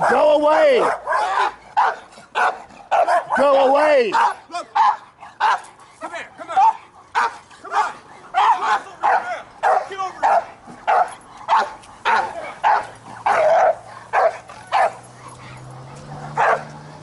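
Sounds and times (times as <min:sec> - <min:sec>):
dog barking: 0:00.0 - 0:05.7, 0:06.6 - 0:16.8.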